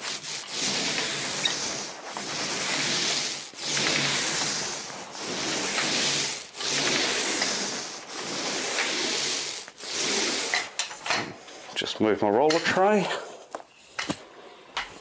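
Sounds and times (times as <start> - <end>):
paint roller rolling on wall: 0.0 - 15.0.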